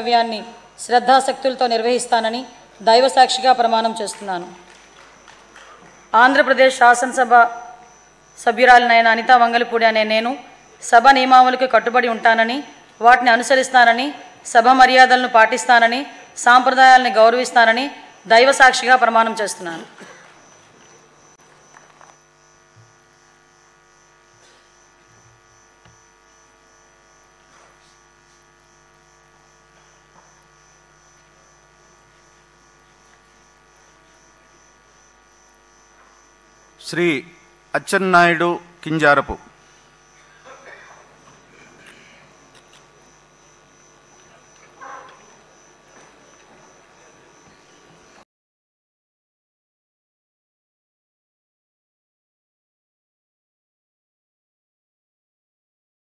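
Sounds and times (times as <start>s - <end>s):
faint electrical hum: 0.0s - 48.2s.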